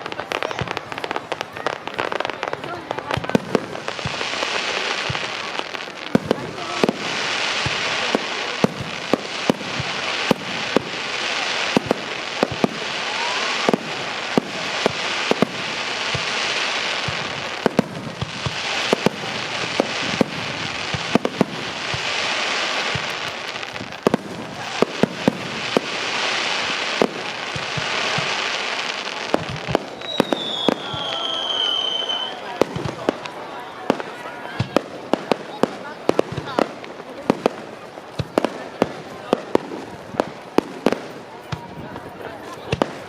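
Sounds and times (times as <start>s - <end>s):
crackling hiss of fireworks: 0.0s - 43.0s.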